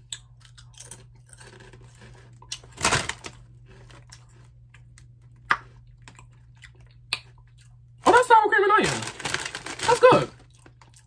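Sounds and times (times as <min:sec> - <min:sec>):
chewing potato chip: 0:00.0 - 0:07.9, 0:08.9 - 0:11.0
faint low hum: 0:00.0 - 0:11.0.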